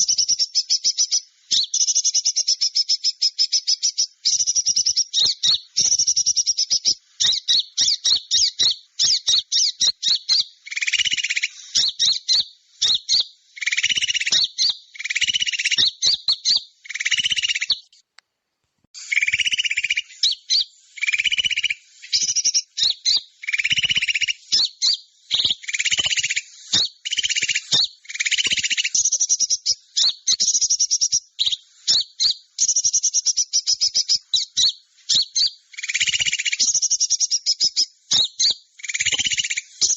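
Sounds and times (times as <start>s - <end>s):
buzzy lower bird phrases: 0.0s - 18.1s, 19.0s - 39.9s
songbirds chipping and trilling: 0.0s - 18.1s, 19.0s - 39.9s.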